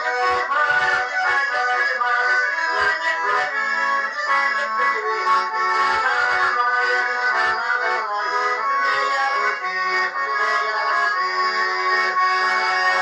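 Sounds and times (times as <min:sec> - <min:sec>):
button accordion melody: 0:00.0 - 0:13.0.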